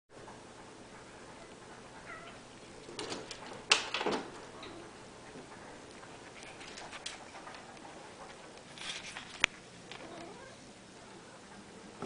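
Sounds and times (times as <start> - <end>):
faint room tone hiss: 0.2 - 12.0.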